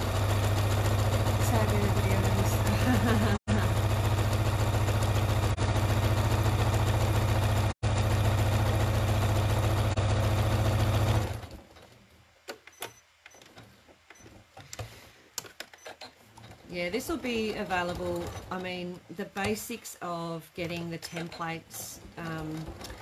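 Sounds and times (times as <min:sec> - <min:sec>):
sewing machine stitching: 0:00.0 - 0:11.9, 0:15.6 - 0:19.8, 0:20.5 - 0:23.0.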